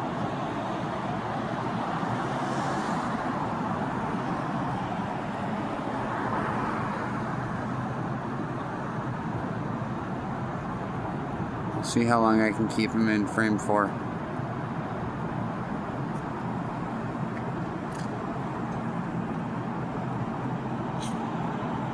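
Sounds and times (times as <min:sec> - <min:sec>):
city traffic hum: 0:00.0 - 0:21.9.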